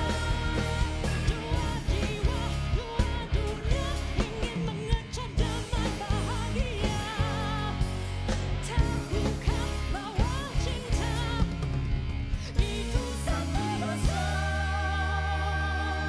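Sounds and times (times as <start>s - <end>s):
backing band bass and drums: 0.0s - 16.0s
woman singing pop ballad: 0.0s - 16.0s.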